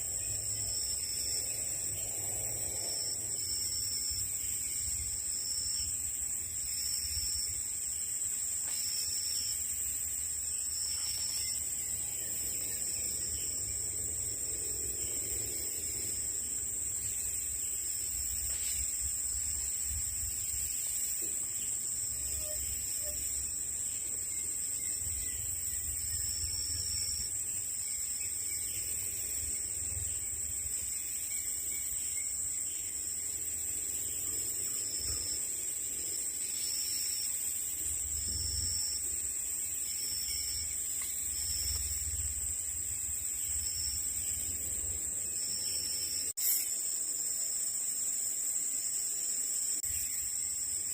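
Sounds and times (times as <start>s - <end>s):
insects droning: 0.0s - 50.9s.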